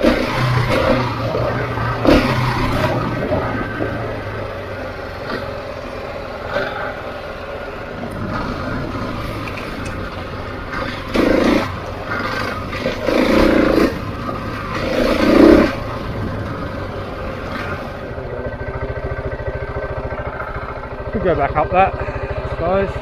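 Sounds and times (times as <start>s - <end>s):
motorcycle engine surging: 0.0s - 23.0s.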